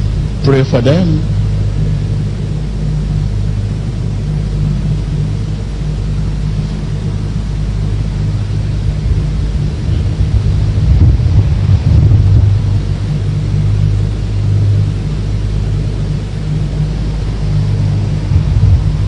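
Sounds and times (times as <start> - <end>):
low hum and rumble: 0.0 - 19.0.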